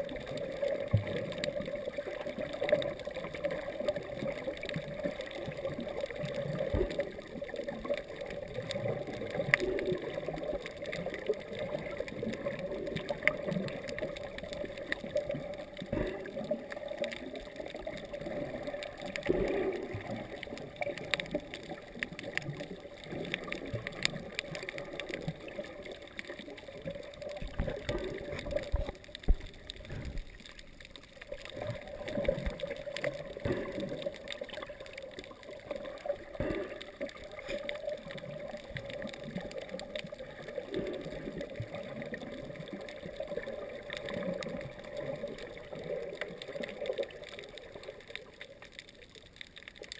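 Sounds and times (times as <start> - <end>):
underwater gurgling and sloshing: 0.0 - 49.9
small clicks: 0.1 - 49.9.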